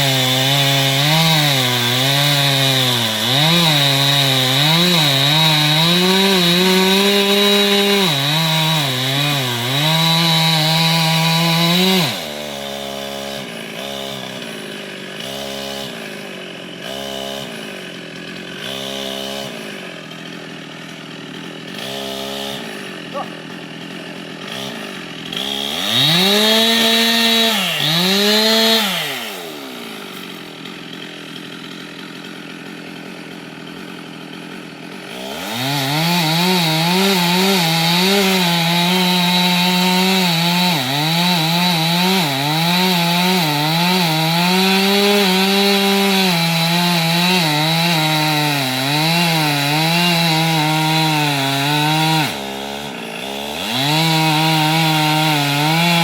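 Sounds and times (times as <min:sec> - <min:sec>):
chainsaw cutting into wood: 0:00.0 - 0:56.0
chainsaw revving and idling: 0:00.0 - 0:56.0.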